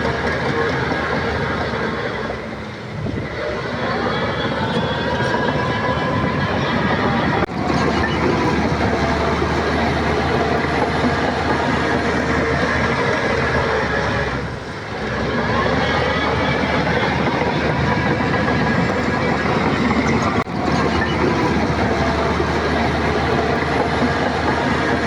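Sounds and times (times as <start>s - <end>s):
bulldozer diesel engine: 0.0s - 25.0s
steel tracks clanking: 0.0s - 25.0s.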